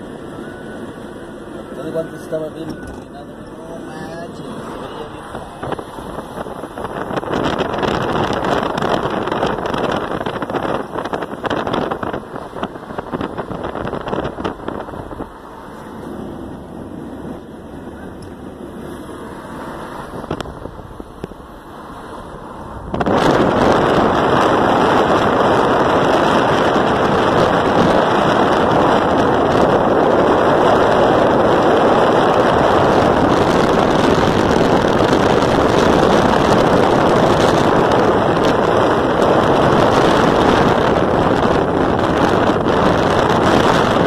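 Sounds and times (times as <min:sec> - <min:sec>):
road noise inside car: 0:00.0 - 0:44.0
wind rushing through car window: 0:00.0 - 0:44.0.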